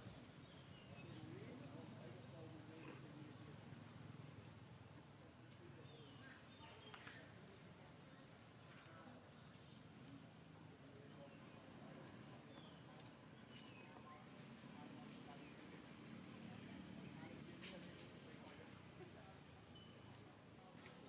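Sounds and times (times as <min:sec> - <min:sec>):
high insect drone: 0:00.1 - 0:21.0.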